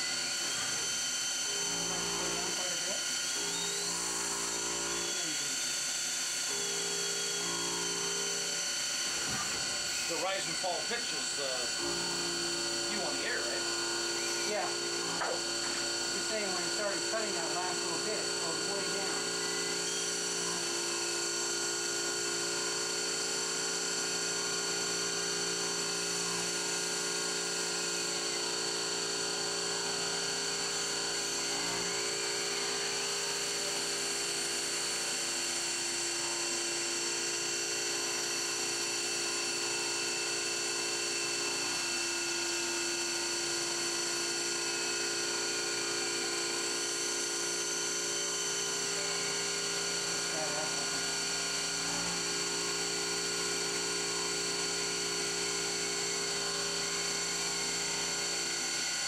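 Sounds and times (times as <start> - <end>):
end mill cutting aluminum: 0.0 - 59.0
milling machine spindle whine: 0.0 - 59.0.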